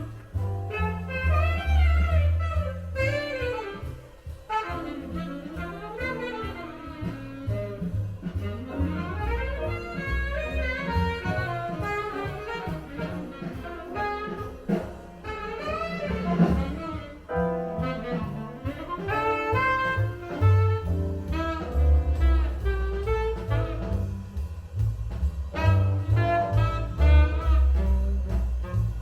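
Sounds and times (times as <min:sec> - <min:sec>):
saxophone lead: 0:00.0 - 0:24.5, 0:25.5 - 0:29.0
double bass: 0:00.0 - 0:29.0.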